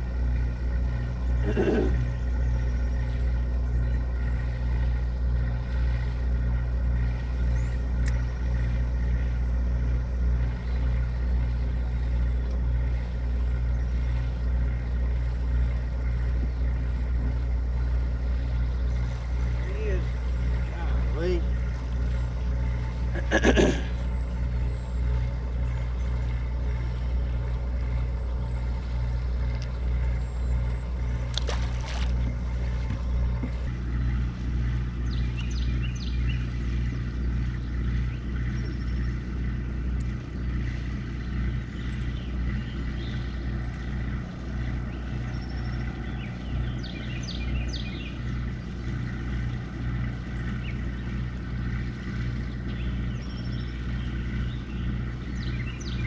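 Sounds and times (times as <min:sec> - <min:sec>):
generator humming: 0:00.0 - 0:56.0.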